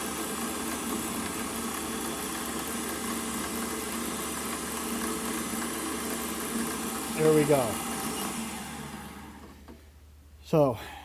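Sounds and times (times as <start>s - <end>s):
milling machine cutting: 0.0s - 9.7s.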